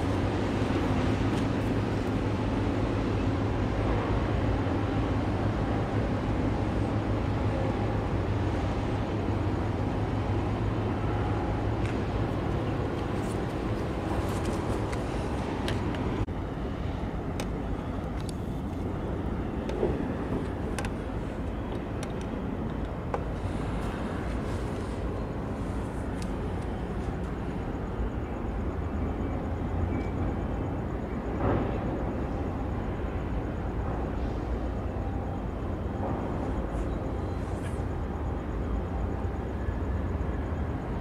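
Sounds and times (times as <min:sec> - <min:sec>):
hissy ambience: 0:00.0 - 0:41.0
ship engine drone: 0:00.0 - 0:41.0.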